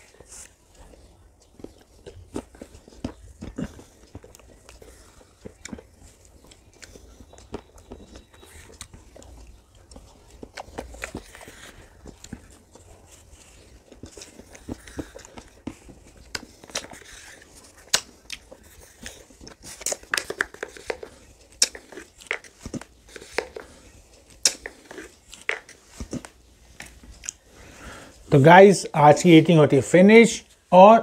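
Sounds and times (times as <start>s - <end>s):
crinkling: 0.0s - 28.4s
mouth clicks and crunches: 0.0s - 28.6s.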